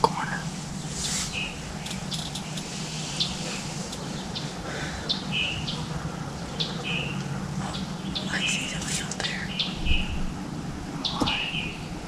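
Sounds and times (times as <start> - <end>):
songbirds chirping: 0.0 - 12.0
steady low hum: 0.0 - 12.0.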